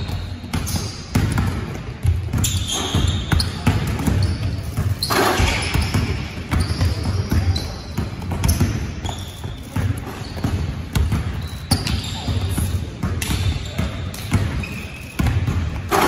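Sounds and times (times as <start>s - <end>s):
basketballs bouncing on hardwood: 0.0s - 16.0s
sneaker squeaks: 0.0s - 16.0s.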